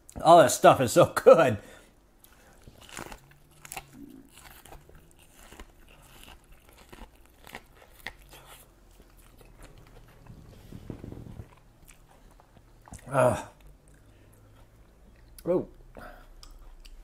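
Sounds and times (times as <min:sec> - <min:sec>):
man biting and chewing corn: 0:02.2 - 0:17.0.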